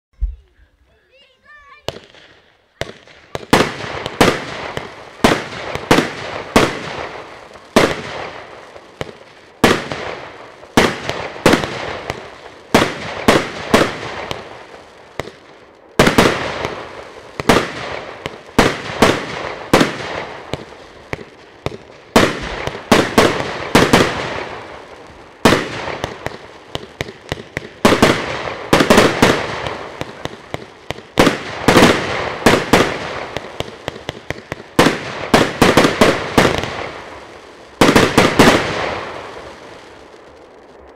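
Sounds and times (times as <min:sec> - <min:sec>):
fireworks bangs: 0:00.2 - 0:40.9.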